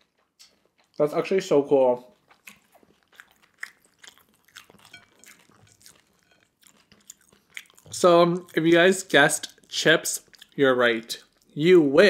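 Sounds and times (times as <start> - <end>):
wet chewing mouth clicks: 0.0 - 1.4, 2.0 - 11.6.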